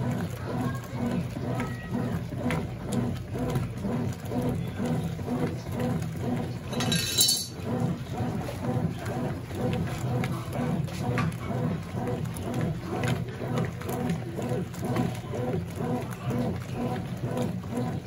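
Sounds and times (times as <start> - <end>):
washing machine agitating: 0.0 - 18.0.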